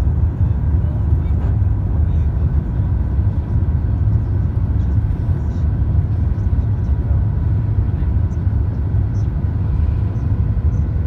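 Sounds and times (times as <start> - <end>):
airliner engines and airflow rumble: 0.0 - 11.0
faint steady whine: 0.0 - 11.0.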